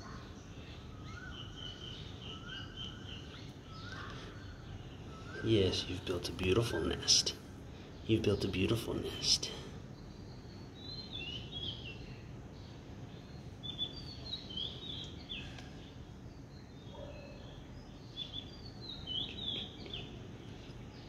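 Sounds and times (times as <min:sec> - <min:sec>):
birds chirping: 0:00.0 - 0:21.0
steady low background noise: 0:00.0 - 0:21.0.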